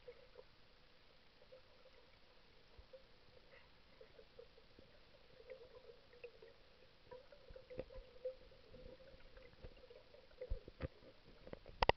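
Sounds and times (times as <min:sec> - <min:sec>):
small underwater clicks: 0:01.4 - 0:11.9.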